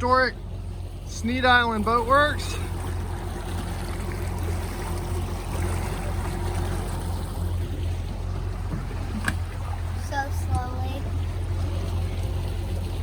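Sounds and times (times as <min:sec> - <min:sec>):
outboard motor humming: 0:00.0 - 0:13.0
water rushing along hull: 0:00.0 - 0:13.0.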